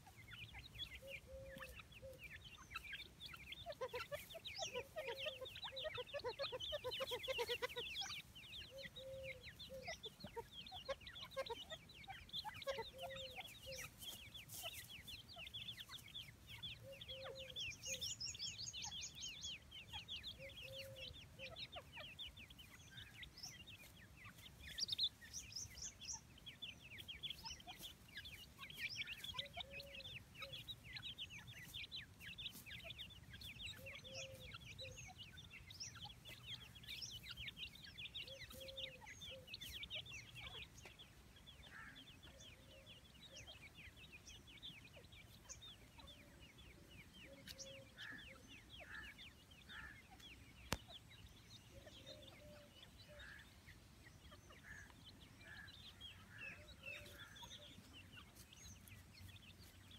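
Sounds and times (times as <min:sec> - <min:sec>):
birds clucking softly: 0:00.0 - 0:59.9.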